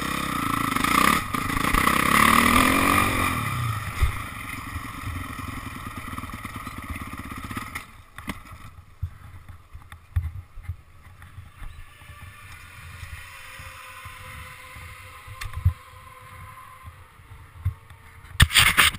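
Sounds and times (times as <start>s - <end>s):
muffled motorcycle engine: 0.0s - 18.9s.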